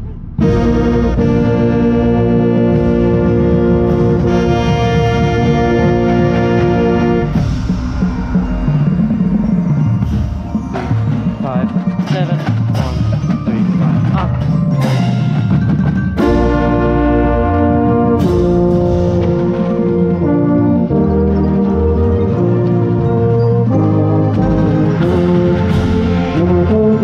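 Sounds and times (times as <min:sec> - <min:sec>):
brass chord: 0:00.0 - 0:13.0, 0:16.2 - 0:27.0
mallet percussion: 0:00.4 - 0:27.0.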